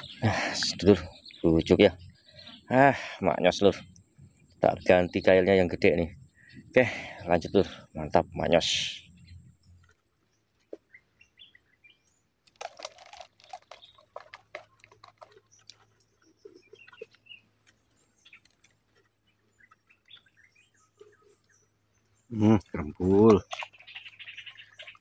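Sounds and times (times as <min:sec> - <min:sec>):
faint bird chirps: 0:00.0 - 0:12.4, 0:13.4 - 0:25.0.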